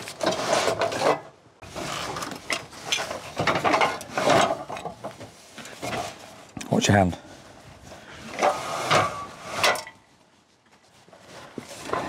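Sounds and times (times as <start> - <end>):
rough scraping and rattling: 0.0 - 6.9, 7.7 - 10.2, 10.8 - 12.0.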